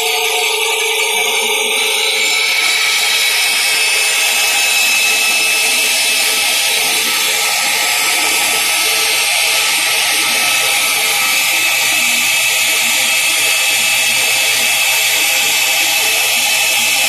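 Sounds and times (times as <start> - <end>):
band saw whining: 0.0 - 17.0.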